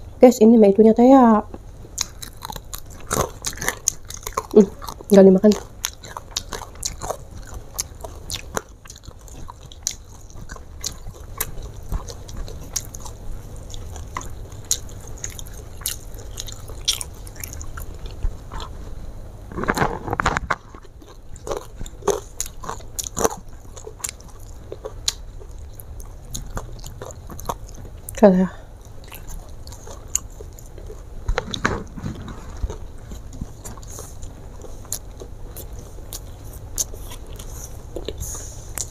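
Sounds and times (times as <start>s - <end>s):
person chewing crunchy food: 1.5s - 38.9s.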